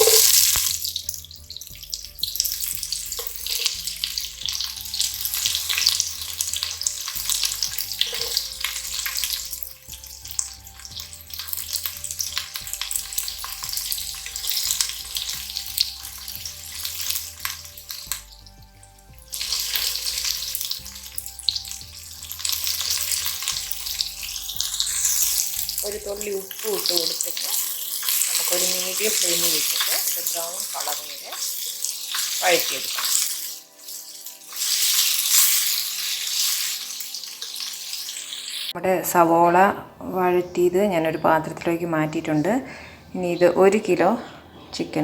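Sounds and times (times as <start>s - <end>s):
onions sizzling in oil: 0.0s - 38.8s.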